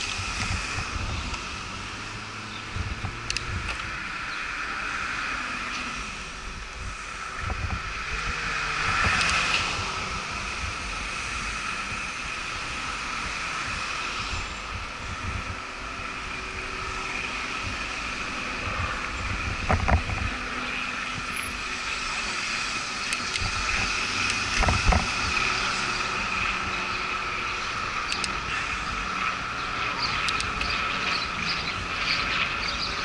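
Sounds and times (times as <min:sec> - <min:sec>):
bicycle ride noise: 0:00.0 - 0:33.0
cars passing: 0:00.0 - 0:33.0
wind rumbling on microphone: 0:00.0 - 0:33.0.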